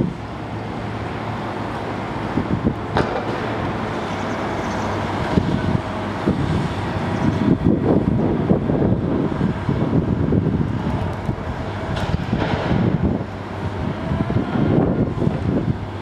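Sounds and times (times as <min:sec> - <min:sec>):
city traffic: 0:00.0 - 0:16.0
excavator diesel engine running: 0:00.0 - 0:16.0.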